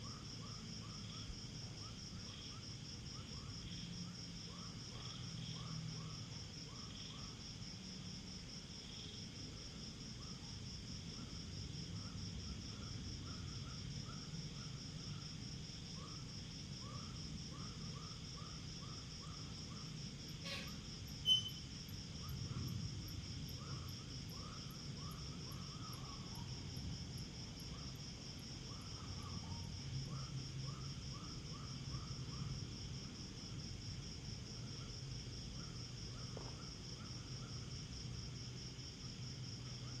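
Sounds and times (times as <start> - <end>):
lower insect chirp: 0.0 - 40.0
night insects chirping: 0.0 - 40.0.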